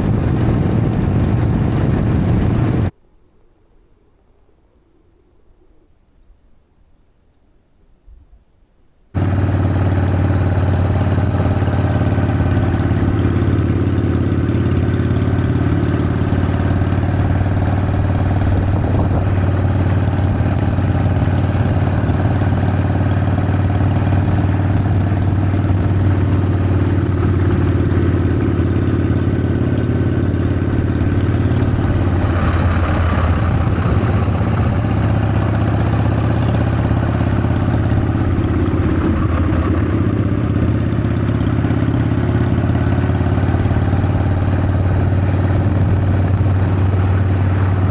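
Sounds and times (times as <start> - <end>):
motorcycle engine running: 0.0 - 2.9, 9.2 - 47.9.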